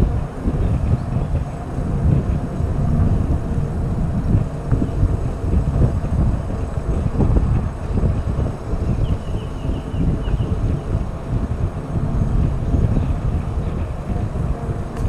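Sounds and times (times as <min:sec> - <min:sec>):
bike riding noise: 0:00.0 - 0:15.0
wind buffeting microphone: 0:00.0 - 0:15.0.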